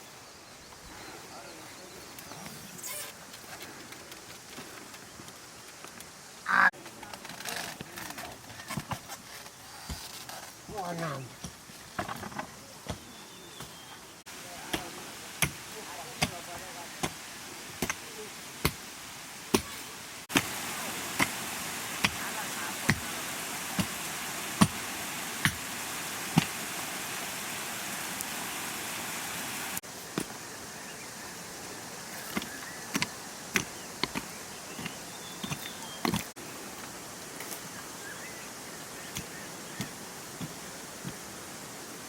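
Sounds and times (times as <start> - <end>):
background hiss: 0.0 - 42.0.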